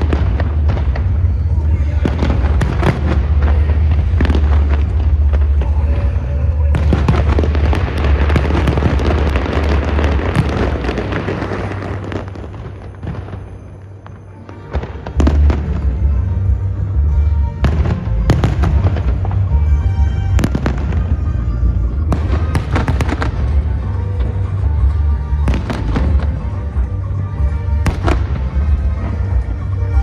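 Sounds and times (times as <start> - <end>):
fireworks crackling and booming: 0.0 - 30.0
music: 0.0 - 30.0.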